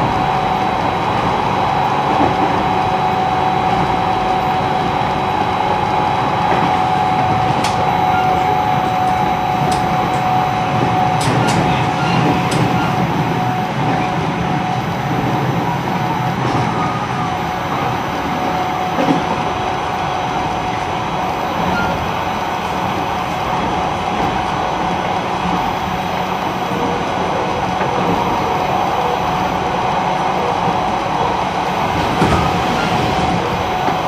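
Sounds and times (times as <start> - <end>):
traction motor whine: 0.0 - 34.0
train wheels rumbling on rail: 0.0 - 34.0.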